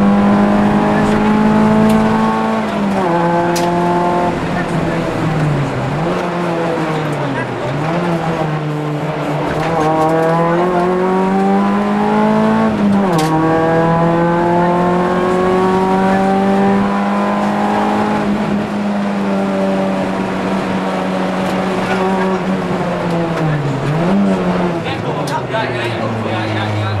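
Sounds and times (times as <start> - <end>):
rally car engine accelerating: 0.0 - 27.0.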